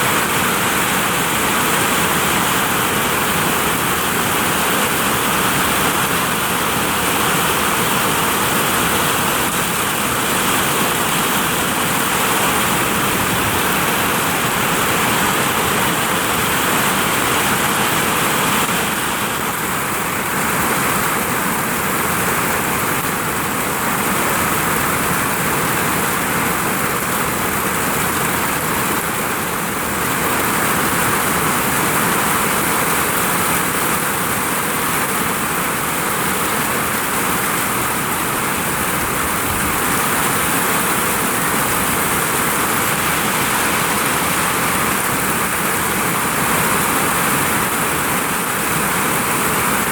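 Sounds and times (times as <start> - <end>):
heavy rain on a vinyl roof: 0.0 - 49.9.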